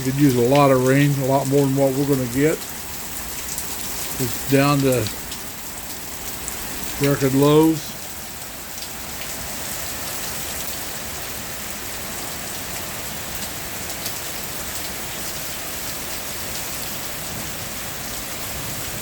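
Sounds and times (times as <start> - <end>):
heavy rain downpour: 0.0 - 19.0.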